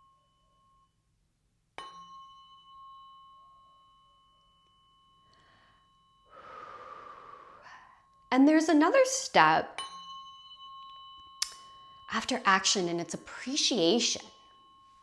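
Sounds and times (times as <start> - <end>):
tuning fork ringing: 0.0 - 15.0.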